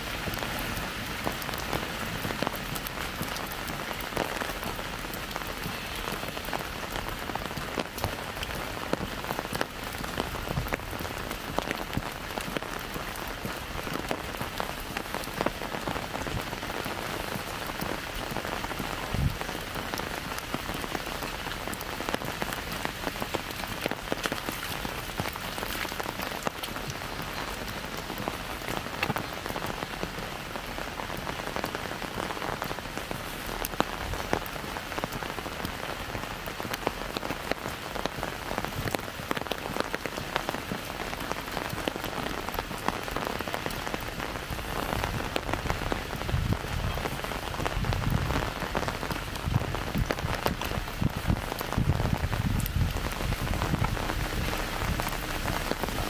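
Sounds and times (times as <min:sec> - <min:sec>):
rain on an umbrella: 0:00.0 - 0:56.0.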